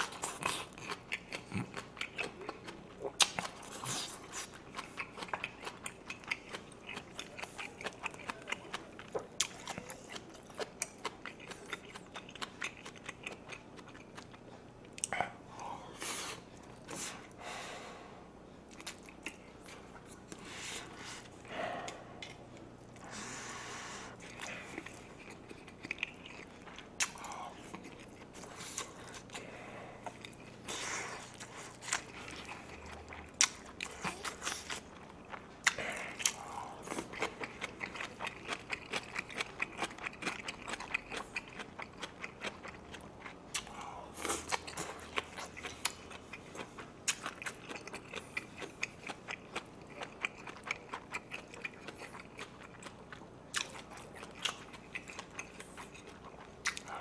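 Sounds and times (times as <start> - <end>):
person chewing and crunching food: 0.0 - 17.5, 18.6 - 57.0.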